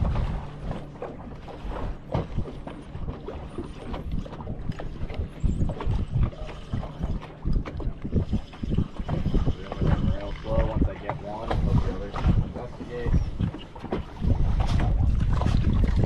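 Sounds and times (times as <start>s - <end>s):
low steady rumble: 0.0s - 16.0s
waves slapping against boat hull: 0.0s - 16.0s.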